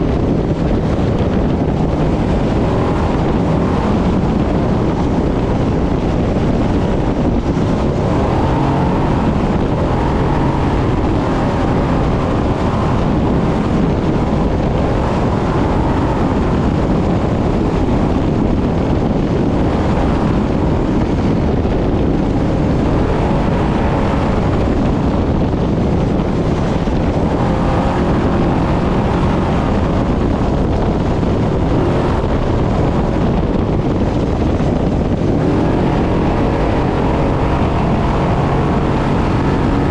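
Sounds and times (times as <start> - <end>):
truck engine running hard: 0.0 - 39.9
wind and road noise: 0.0 - 39.9.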